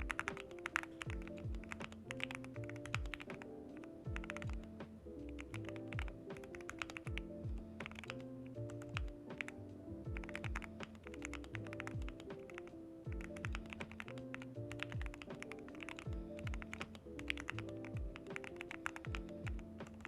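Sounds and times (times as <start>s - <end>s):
mechanical keyboard typing: 0.0s - 4.7s, 5.3s - 20.0s
background music with steady beat: 0.0s - 20.0s.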